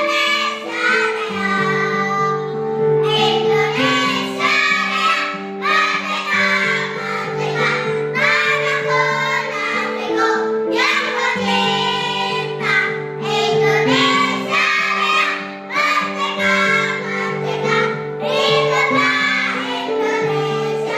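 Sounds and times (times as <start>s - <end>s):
children's choir singing: 0.0s - 20.9s.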